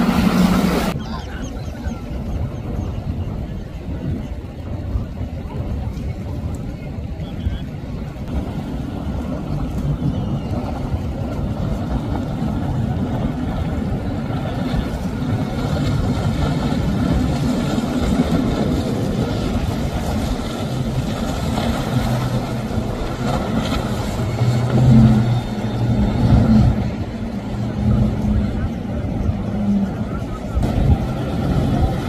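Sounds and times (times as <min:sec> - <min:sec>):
outboard motors droning: 0:00.0 - 0:32.0
water rushing from boat hull: 0:00.0 - 0:32.0.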